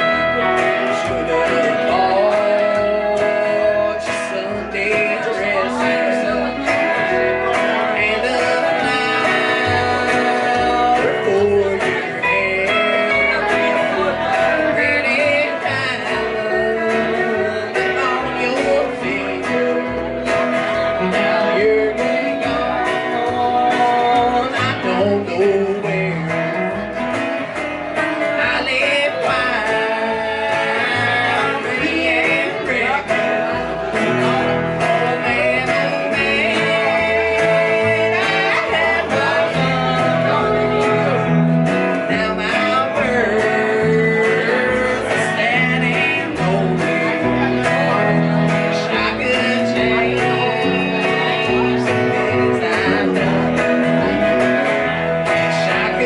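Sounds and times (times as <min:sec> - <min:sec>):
live country band playing: 0:00.0 - 0:56.0
man singing: 0:00.0 - 0:56.0.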